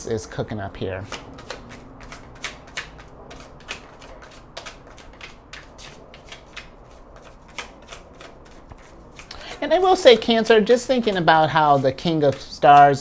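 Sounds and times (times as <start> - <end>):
playing cards being shuffled: 1.0 - 13.0.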